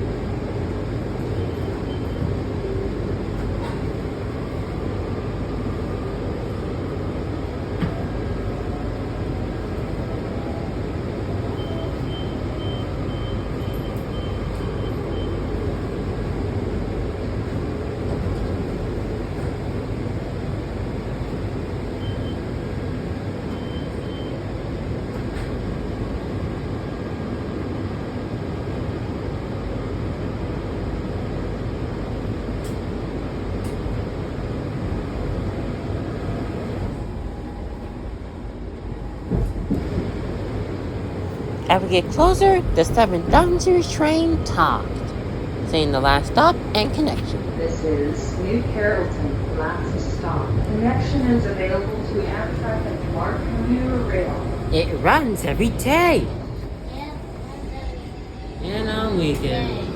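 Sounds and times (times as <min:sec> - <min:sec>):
rumble of train wheels on rail: 0:00.0 - 0:43.4, 0:44.3 - 0:45.6, 0:47.4 - 0:55.0, 0:56.2 - 0:59.9.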